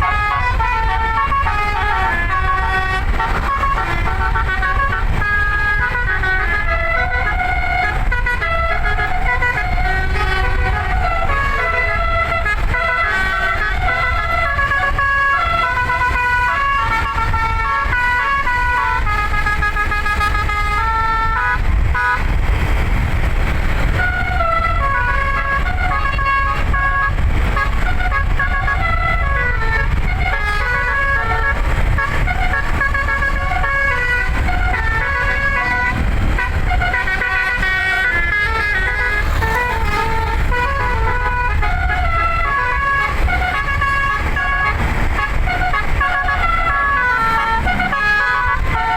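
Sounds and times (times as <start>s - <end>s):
musical air horn melody: 0.0s - 22.7s, 23.6s - 48.9s
steady low rumble: 0.0s - 48.9s.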